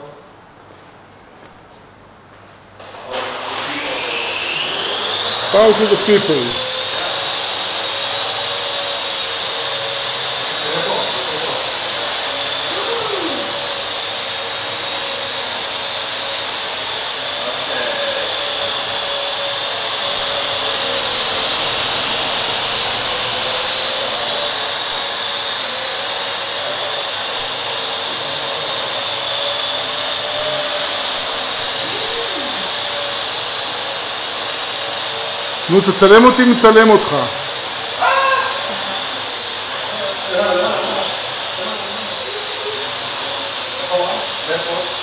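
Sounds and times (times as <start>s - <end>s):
drone propellers whining: 2.8s - 45.0s.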